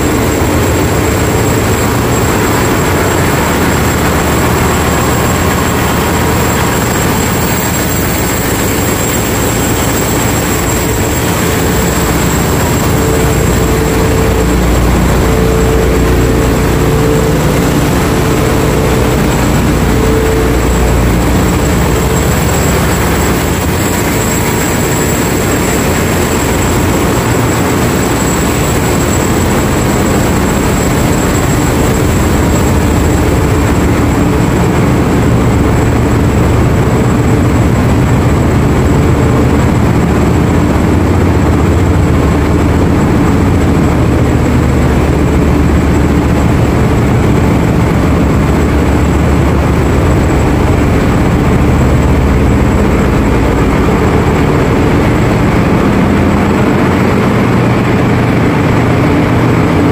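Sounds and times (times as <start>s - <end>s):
engine room machinery din: 0.0s - 59.9s
high-pitched machinery whine: 0.0s - 59.9s.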